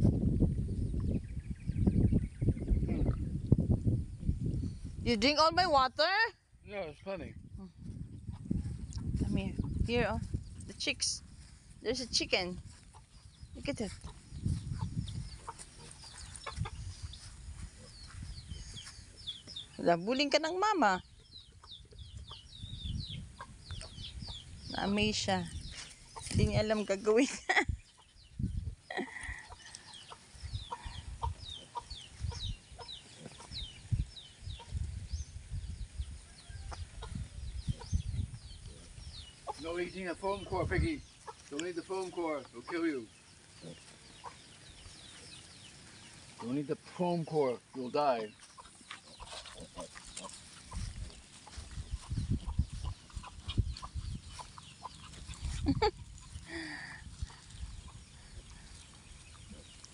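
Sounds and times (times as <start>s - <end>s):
chicks peeping: 7.9s - 19.8s, 20.6s - 35.0s, 35.6s - 59.9s.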